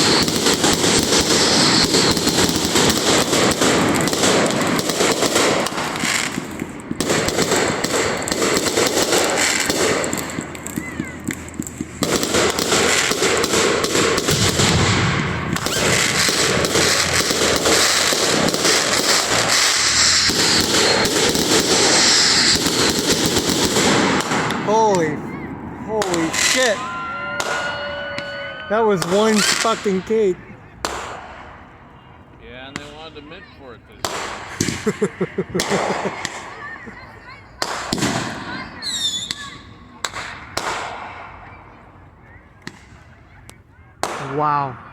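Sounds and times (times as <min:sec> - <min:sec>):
firework barrage bangs and crackling: 0:00.0 - 0:32.1, 0:34.0 - 0:41.6.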